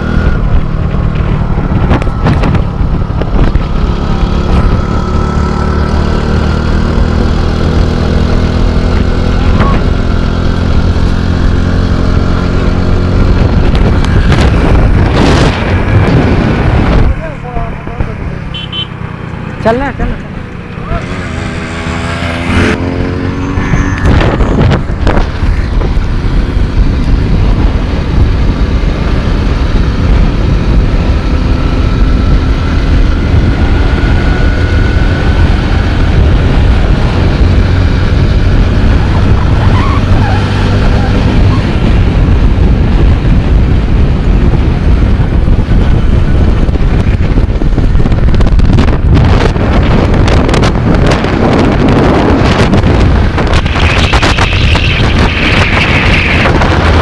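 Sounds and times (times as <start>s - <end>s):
wind rumble on microphone: 0.0s - 18.4s, 19.5s - 57.0s
motorcycle engine running: 0.0s - 57.0s.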